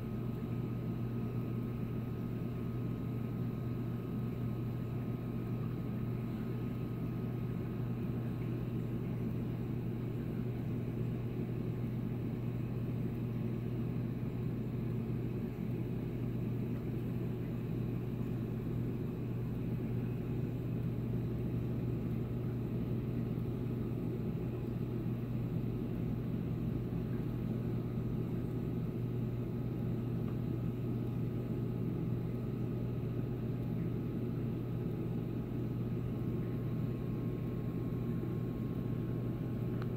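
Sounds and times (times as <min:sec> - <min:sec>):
low electrical pump hum: 0:00.0 - 0:39.9.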